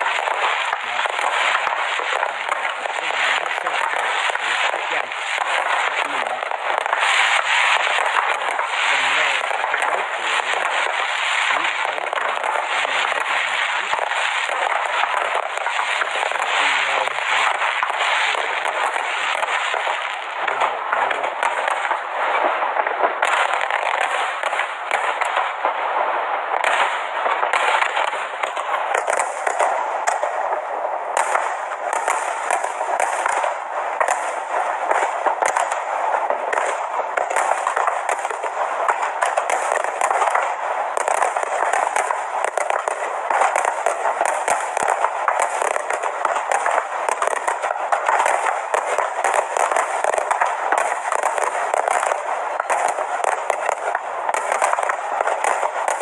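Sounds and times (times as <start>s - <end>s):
fireworks banging and crackling: 0.0s - 56.0s.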